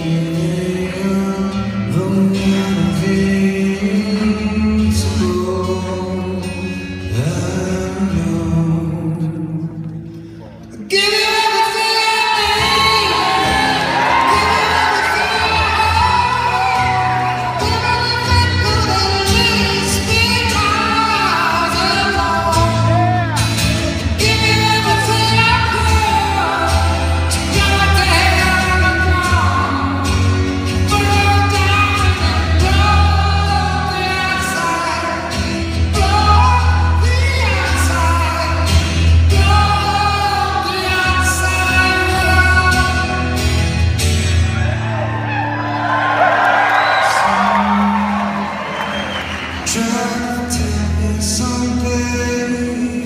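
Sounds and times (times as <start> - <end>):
strummed acoustic guitar: 0.0 - 11.8, 12.4 - 45.6
person singing: 0.0 - 43.6, 46.8 - 48.8, 49.5 - 53.0.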